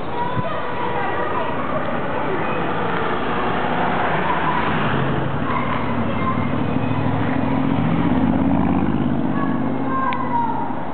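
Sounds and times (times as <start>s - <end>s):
engine running: 1.4s - 10.7s.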